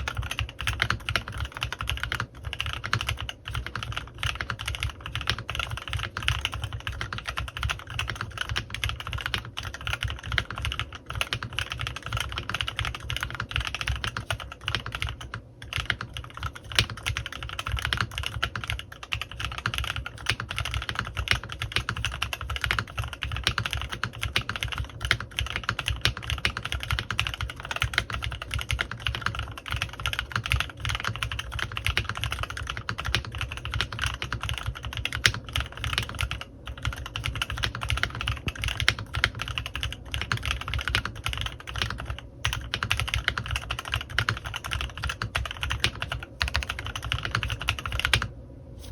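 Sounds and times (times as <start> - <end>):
mechanical keyboard typing: 0.0 - 48.3.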